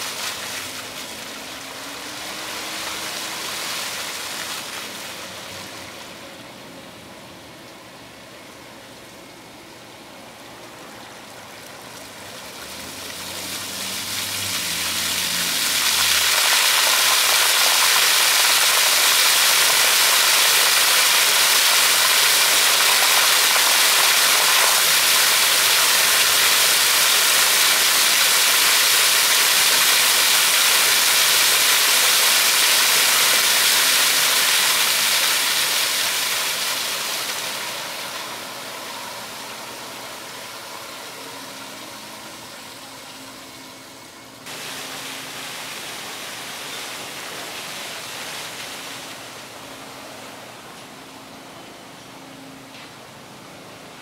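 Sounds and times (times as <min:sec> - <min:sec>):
fountain jets spraying water: 0:00.0 - 0:51.4.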